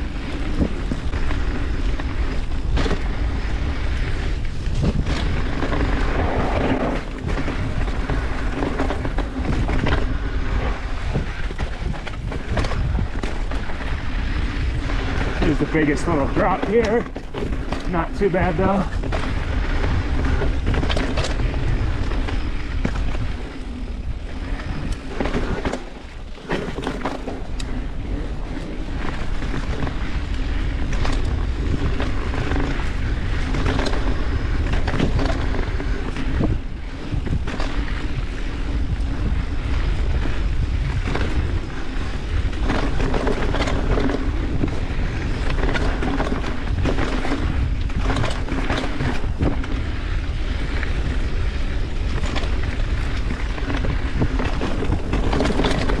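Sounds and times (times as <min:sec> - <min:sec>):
bike rattling and knocking: 0:00.0 - 0:56.0
tyres rolling on dirt and rock: 0:00.0 - 0:56.0
wind buffeting microphone: 0:00.0 - 0:56.0.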